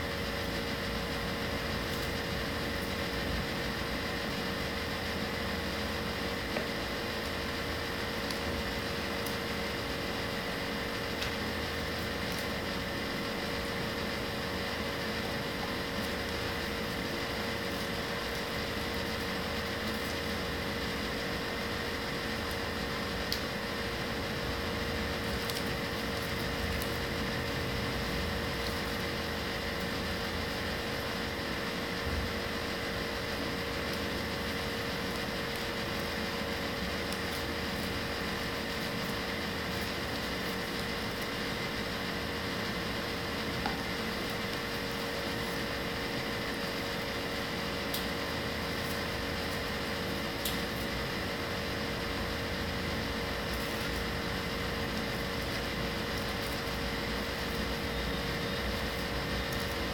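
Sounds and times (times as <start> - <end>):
mechanical hum with tones: 0.0 - 59.9.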